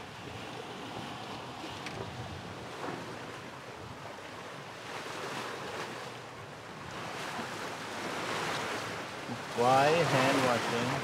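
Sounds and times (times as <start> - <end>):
sea waves washing: 0.0 - 11.0.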